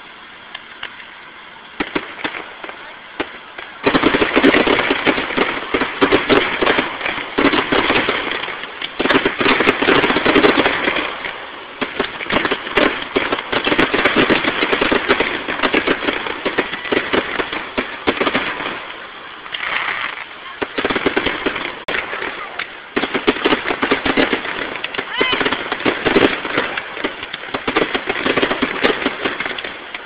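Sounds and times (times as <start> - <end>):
fireworks bangs and popping: 1.8 - 30.0.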